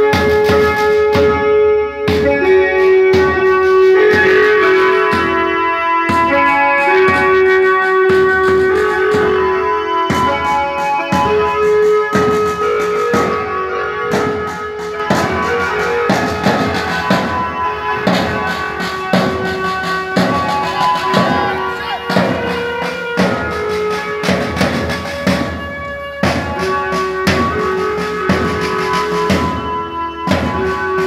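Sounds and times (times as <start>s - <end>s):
side drum and bass drum: 0.0s - 31.0s
held melody notes: 2.2s - 31.0s.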